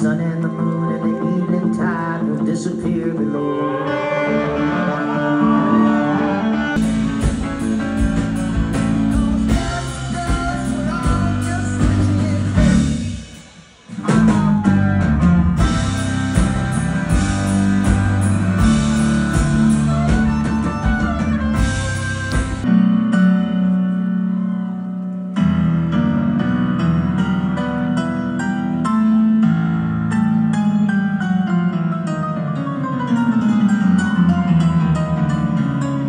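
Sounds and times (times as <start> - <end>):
live rock band playing: 0.0 - 29.3.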